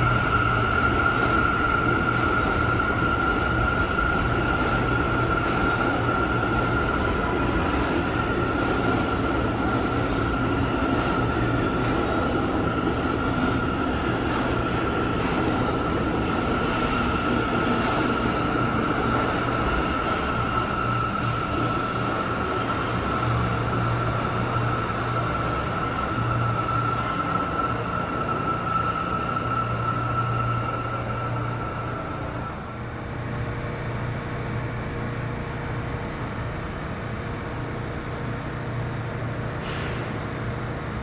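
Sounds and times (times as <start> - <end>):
subway train rumble: 0.0 - 41.0.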